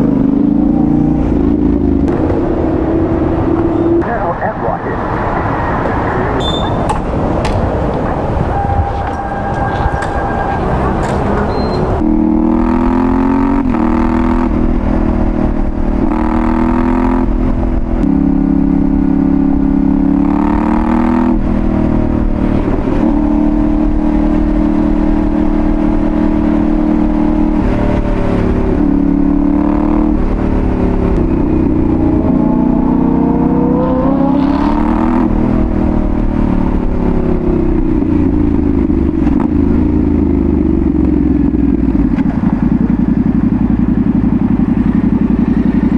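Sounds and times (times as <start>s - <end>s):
motorcycle engine shifting gears: 0.0s - 45.9s.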